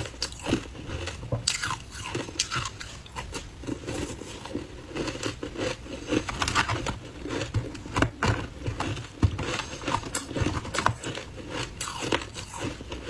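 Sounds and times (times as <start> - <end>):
chewing and crunching ice: 0.0 - 13.0.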